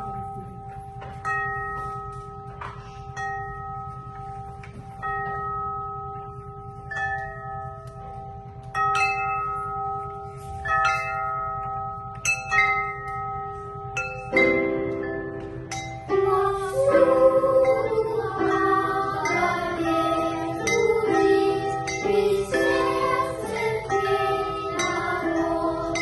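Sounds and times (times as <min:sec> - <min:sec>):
bells ringing: 0:00.0 - 0:26.0.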